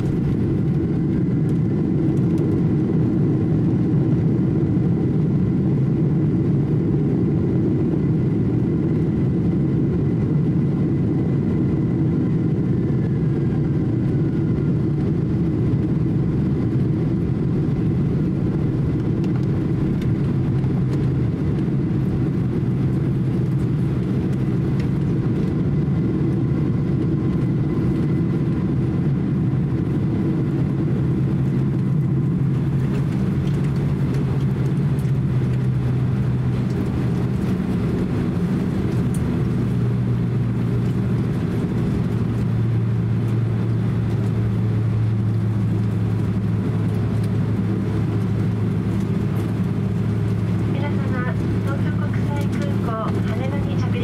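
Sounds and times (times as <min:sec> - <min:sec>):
aircraft cabin rumble: 0:00.0 - 0:54.0
jet engines humming: 0:00.0 - 0:54.0.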